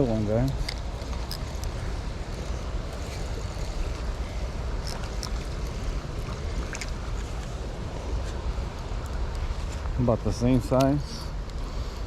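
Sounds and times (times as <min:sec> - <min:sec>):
moving water: 0:00.0 - 0:12.0.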